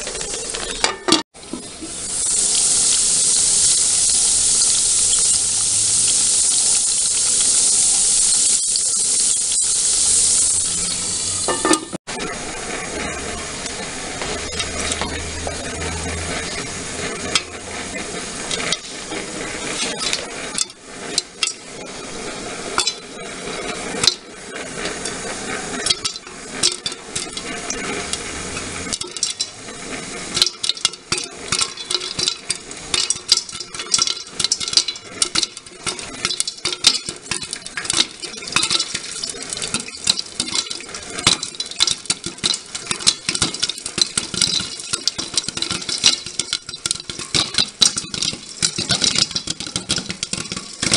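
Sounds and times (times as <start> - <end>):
oil sizzling: 0.0 - 50.9
popcorn popping: 0.0 - 50.9.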